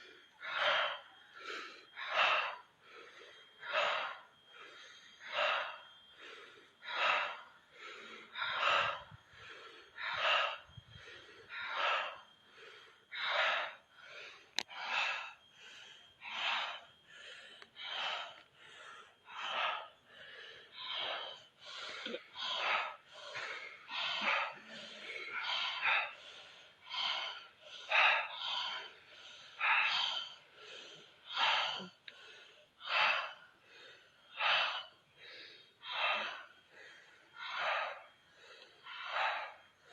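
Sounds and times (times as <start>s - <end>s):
deep rhythmic breathing: 0.0s - 39.9s.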